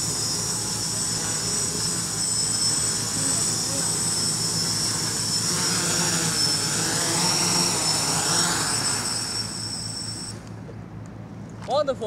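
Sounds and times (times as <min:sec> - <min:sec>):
drone motors whining: 0:00.0 - 0:10.8.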